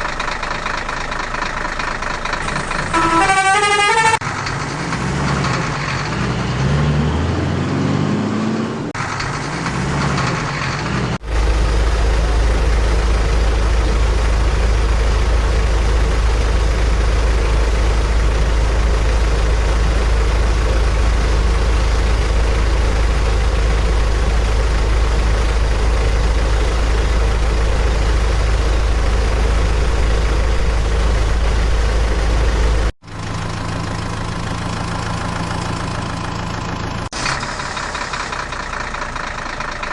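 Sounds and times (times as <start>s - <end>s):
quiet steady engine tone: 0.0s - 6.7s, 8.9s - 39.9s
deep diesel engine rumble: 0.0s - 39.9s
engine revving: 2.3s - 36.4s.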